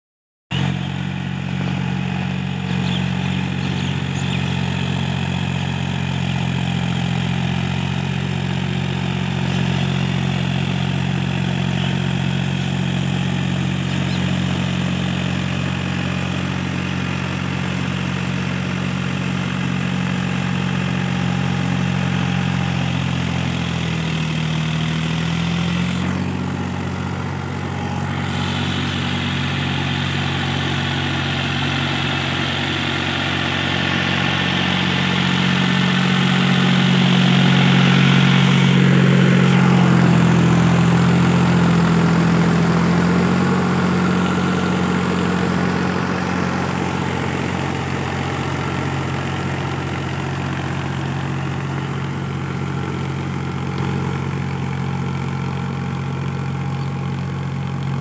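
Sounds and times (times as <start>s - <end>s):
tractor diesel engine under load: 0.5s - 58.0s.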